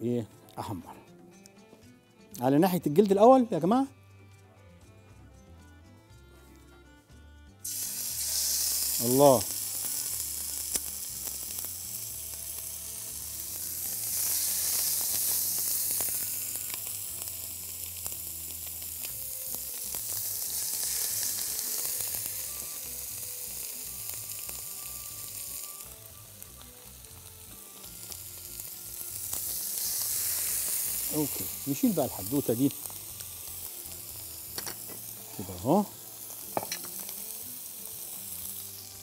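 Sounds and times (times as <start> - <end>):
chicken sizzling in a hot pan: 7.6 - 39.0.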